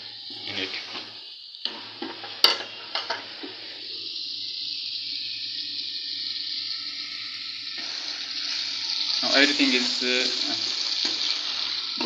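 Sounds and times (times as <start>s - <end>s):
curry sizzling in metal pan: 0.0s - 12.0s.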